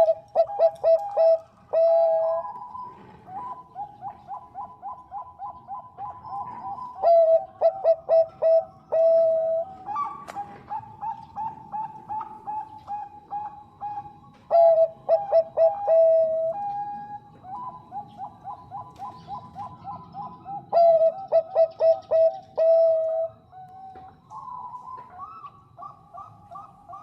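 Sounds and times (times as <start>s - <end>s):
dove cooing staccato notes: 0.0s - 27.0s.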